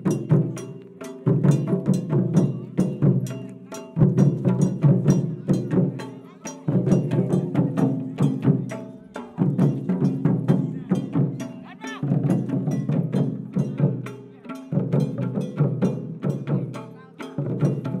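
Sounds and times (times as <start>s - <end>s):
dance music played on drums: 0.0s - 18.0s.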